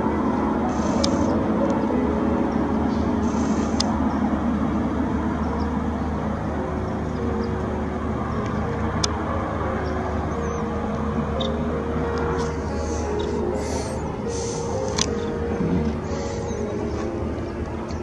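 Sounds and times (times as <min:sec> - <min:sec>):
helicopter rotor drone: 0:00.0 - 0:18.0.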